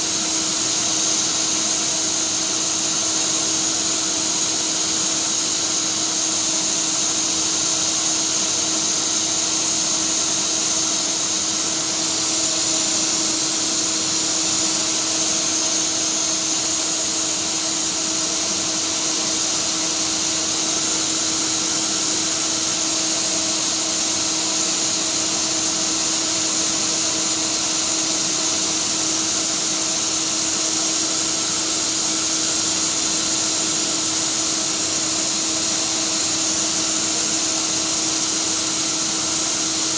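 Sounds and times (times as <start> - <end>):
cnc router humming with high whine: 0.0 - 39.9.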